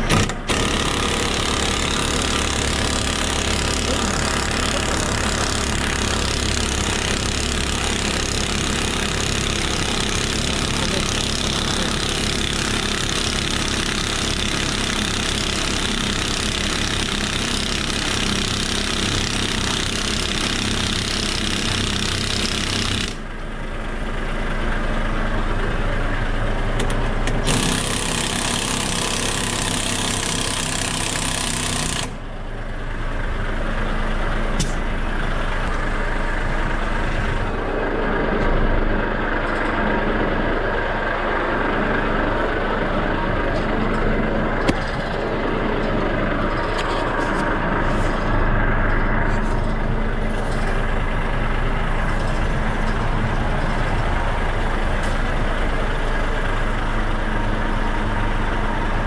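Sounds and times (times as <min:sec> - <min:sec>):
diesel truck engine clattering: 0:00.0 - 0:59.0.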